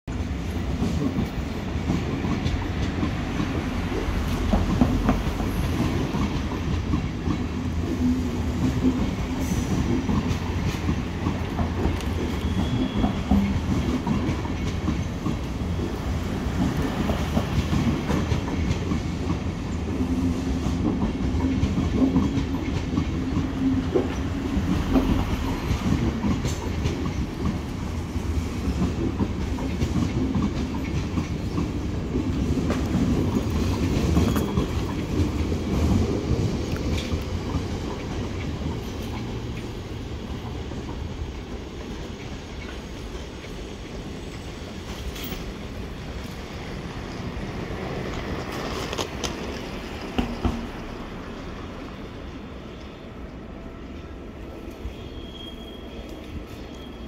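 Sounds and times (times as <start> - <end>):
train coaches rolling past: 0.1 - 57.0.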